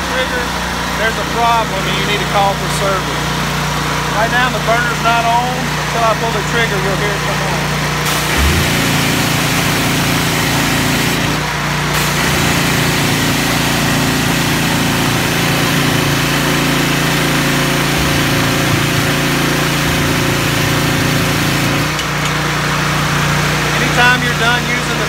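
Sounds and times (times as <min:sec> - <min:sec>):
pressure washer engine running: 0:00.0 - 0:25.0.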